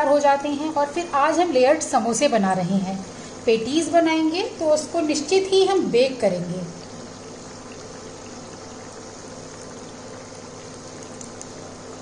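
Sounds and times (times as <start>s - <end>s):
hot oil sizzling and bubbling: 0.0s - 12.0s.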